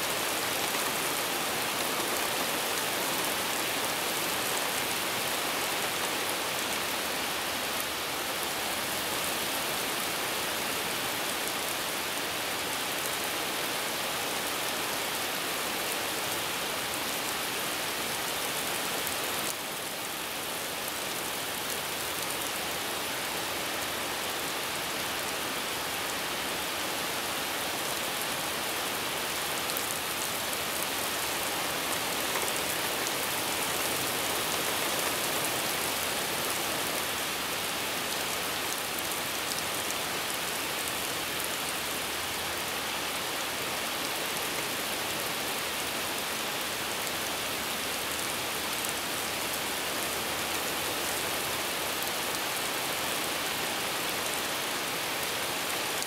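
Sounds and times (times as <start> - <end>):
rain falling and hissing: 0.0 - 56.0.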